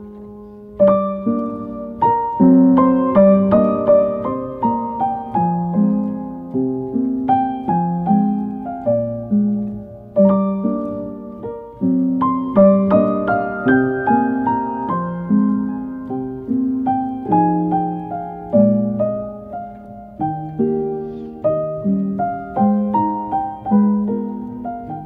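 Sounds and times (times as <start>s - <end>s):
slow solo piano melody: 0.0s - 25.0s.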